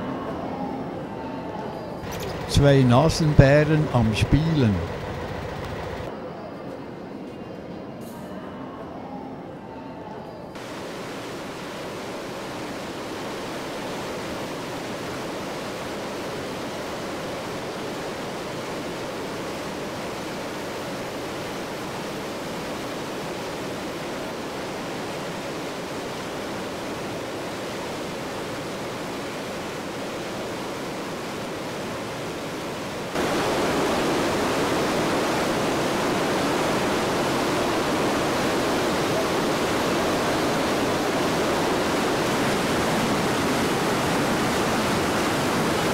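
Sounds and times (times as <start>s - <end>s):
waterfall rushing: 2.0s - 5.0s, 10.6s - 45.9s.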